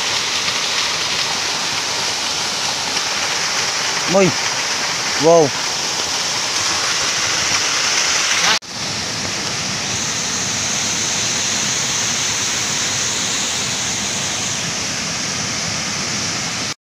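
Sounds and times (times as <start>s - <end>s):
river water rushing over boulders: 0.0s - 16.8s.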